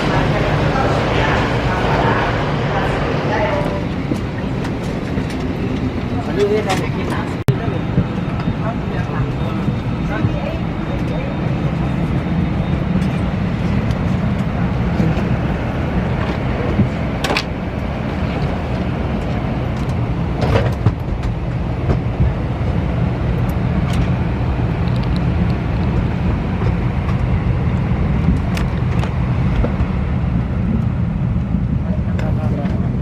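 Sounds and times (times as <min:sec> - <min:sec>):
low rumble inside moving vehicle: 0:00.0 - 0:33.0.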